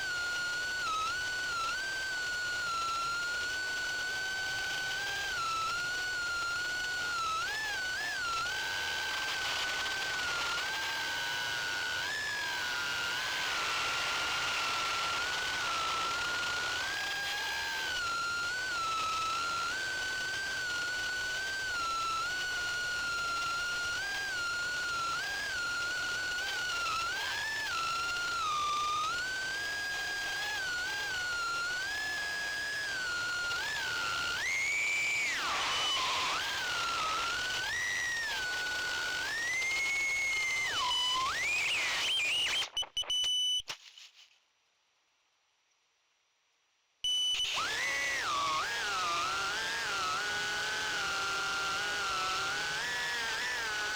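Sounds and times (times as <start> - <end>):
quadcopter motors whining: 0.0 - 42.7, 47.1 - 53.9.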